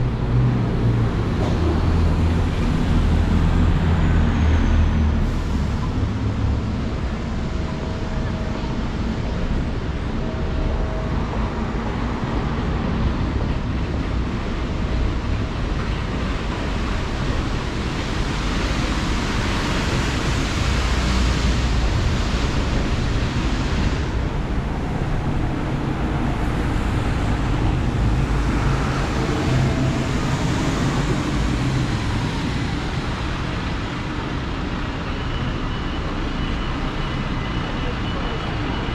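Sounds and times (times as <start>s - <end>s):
low traffic rumble: 0.0s - 38.9s.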